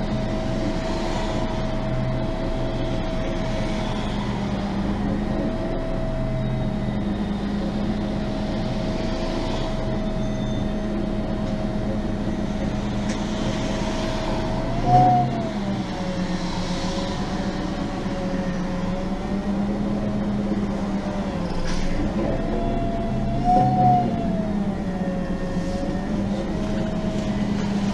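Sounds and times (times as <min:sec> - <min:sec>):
bus engine hum and whine: 0:00.0 - 0:27.9.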